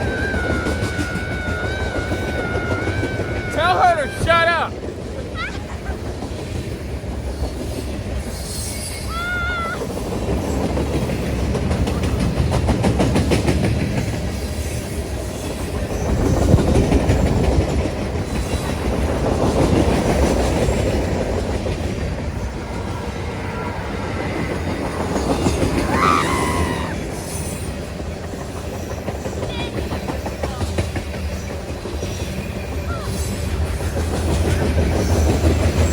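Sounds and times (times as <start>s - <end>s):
train wheels clacking: 0.0s - 9.2s, 9.8s - 25.9s, 27.0s - 35.9s
train rumble: 0.0s - 35.9s.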